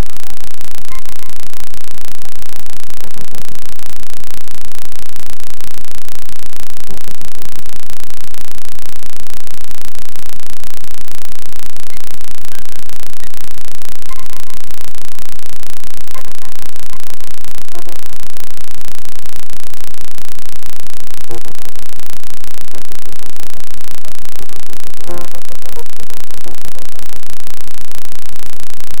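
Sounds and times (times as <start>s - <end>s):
static hiss and crackle: 0.0s - 29.0s.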